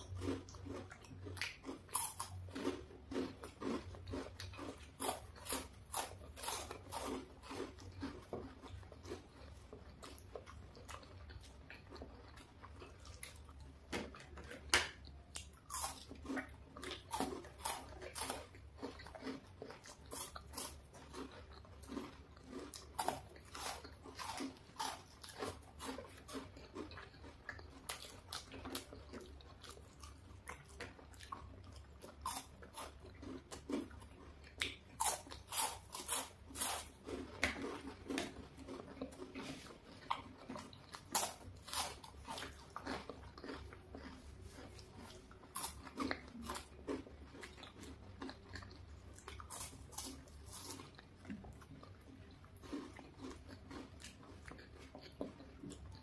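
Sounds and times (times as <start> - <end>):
people chewing chocolate bars: 0.0 - 56.0.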